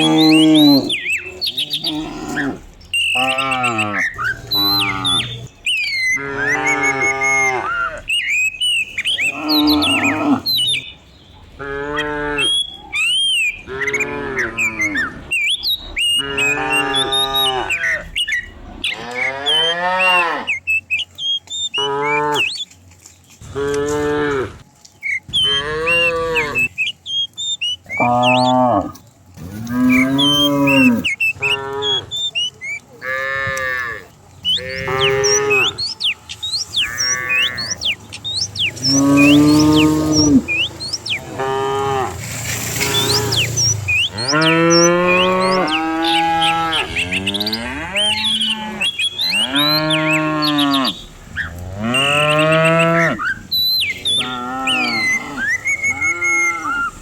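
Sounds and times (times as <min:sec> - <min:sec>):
cows mooing: 0:00.0 - 0:08.3, 0:09.0 - 0:10.9, 0:11.6 - 0:20.6, 0:21.7 - 0:22.6, 0:23.4 - 0:24.6, 0:25.3 - 0:26.9, 0:27.6 - 0:57.0.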